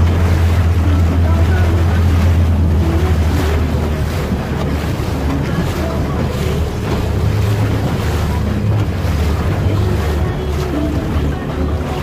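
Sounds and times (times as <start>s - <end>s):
motorboat engine drone: 0.0s - 12.0s
water rushing past hull: 0.0s - 12.0s
wind buffeting microphone: 0.0s - 12.0s.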